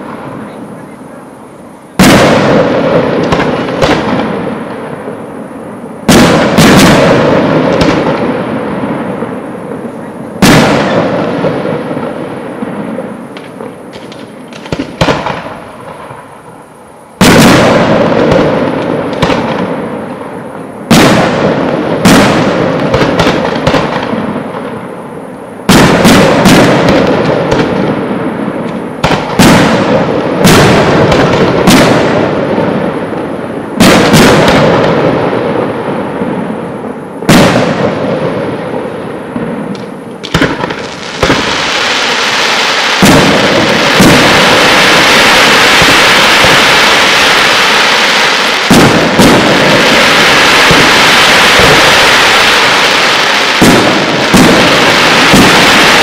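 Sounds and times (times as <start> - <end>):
fireworks bursting with echo: 0.0 - 56.0.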